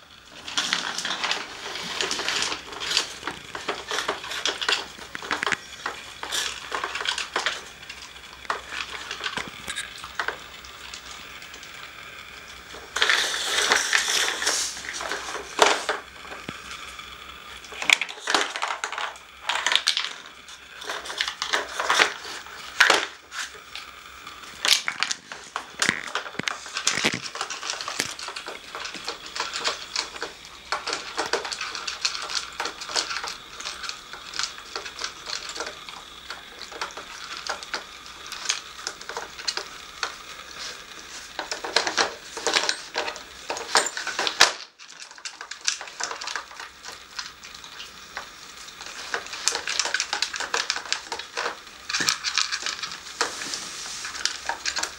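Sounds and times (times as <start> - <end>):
plastic scraping: 0.0 - 54.9
plastic puzzle parts clacking: 0.2 - 54.9.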